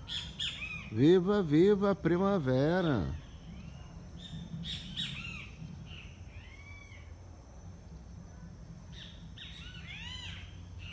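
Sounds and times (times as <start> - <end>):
birds chirping: 0.0 - 10.9
faint low rumble: 0.0 - 10.9.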